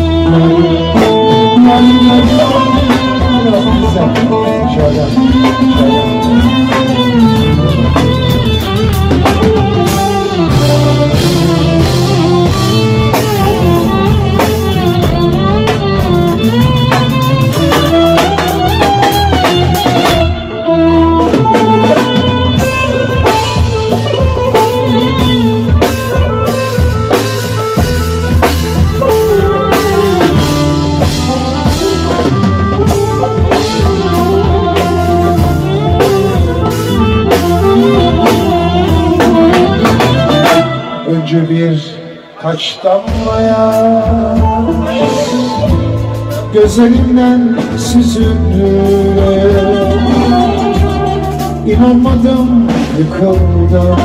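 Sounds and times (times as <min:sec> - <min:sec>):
drum kit beat: 0:00.0 - 0:54.0
live band playing instrumental: 0:00.0 - 0:54.0.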